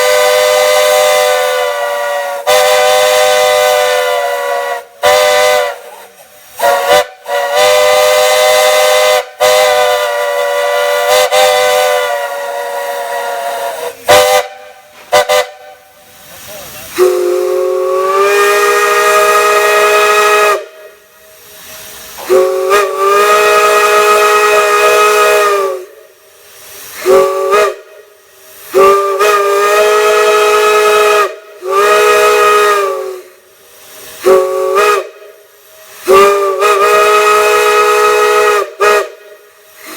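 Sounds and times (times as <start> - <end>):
steam hiss: 0.0 - 39.9.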